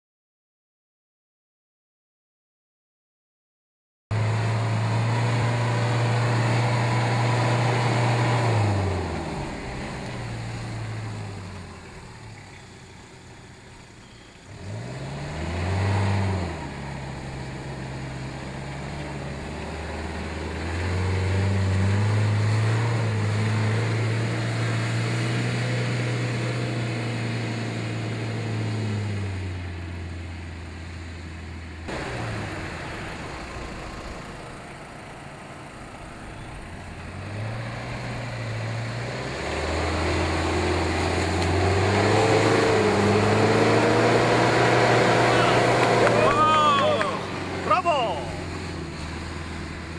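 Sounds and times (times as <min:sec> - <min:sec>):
car engine revving: 0:04.1 - 0:49.9.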